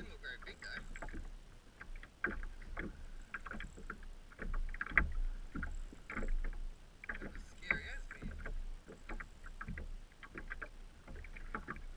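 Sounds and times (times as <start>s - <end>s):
water splashing against kayak hull: 0.0s - 11.9s.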